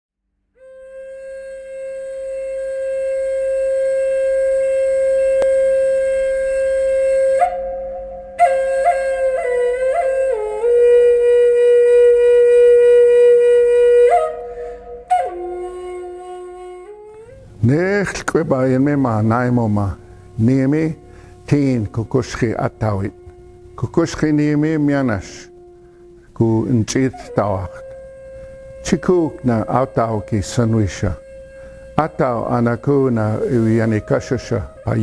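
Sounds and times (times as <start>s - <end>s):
solo wind instrument: 0.5s - 35.0s.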